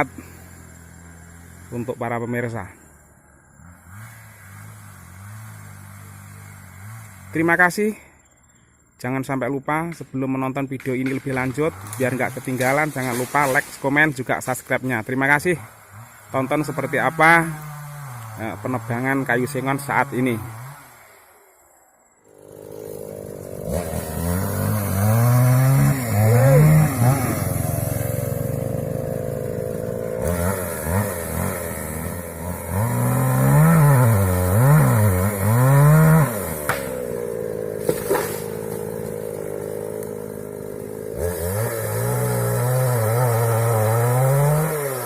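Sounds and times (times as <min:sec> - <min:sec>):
chainsaw revving: 0:00.0 - 0:07.8, 0:10.8 - 0:45.0.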